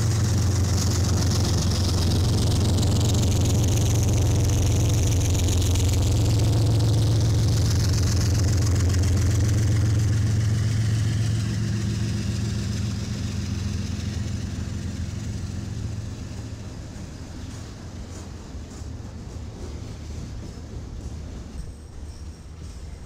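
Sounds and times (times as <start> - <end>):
locomotive engine drone: 0.0 - 23.0
rumble of rolling freight cars: 0.0 - 23.0.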